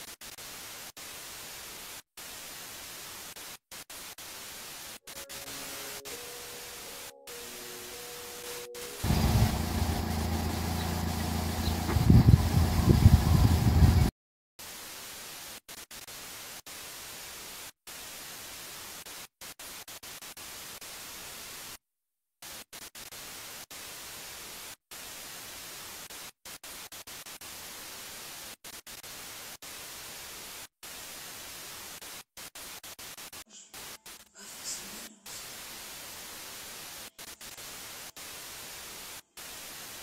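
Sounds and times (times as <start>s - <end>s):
static hiss: 0.0s - 21.8s, 22.4s - 40.0s.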